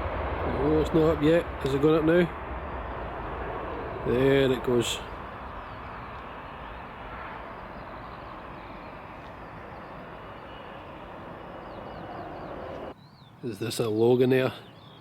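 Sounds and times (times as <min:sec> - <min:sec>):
jet engines at take-off power: 0:00.0 - 0:13.0.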